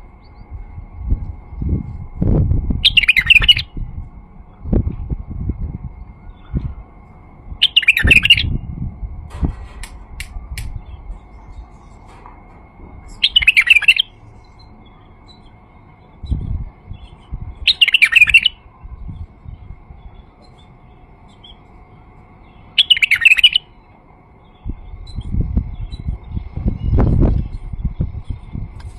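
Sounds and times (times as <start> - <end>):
bird singing: 0.0 - 0.8, 2.8 - 4.8, 5.4 - 8.7, 10.3 - 28.6.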